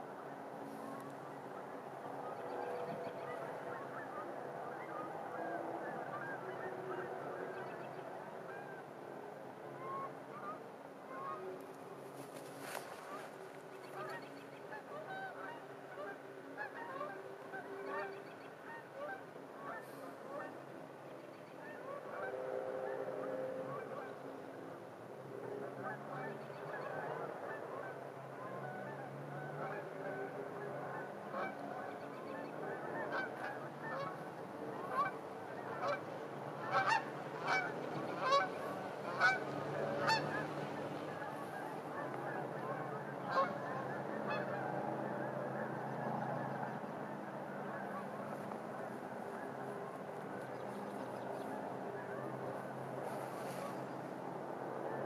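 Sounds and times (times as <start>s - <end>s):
geese honking: 0.6s - 8.9s, 9.8s - 20.7s, 21.6s - 24.7s, 25.4s - 53.8s.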